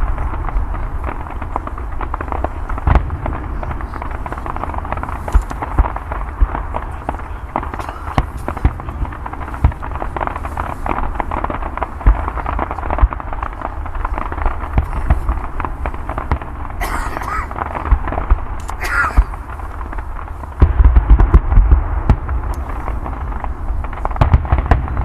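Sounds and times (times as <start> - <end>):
fireworks crackling: 0.0 - 25.0
fireworks deep booms: 0.0 - 25.0
fireworks sharp bangs: 0.0 - 25.0.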